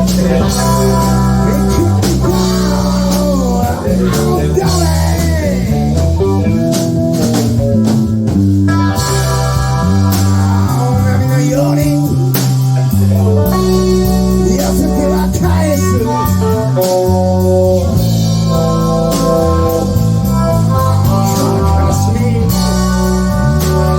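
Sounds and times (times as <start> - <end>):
bass: 0.0 - 23.9
drums: 0.0 - 23.9
guitar with bending notes: 0.0 - 23.9.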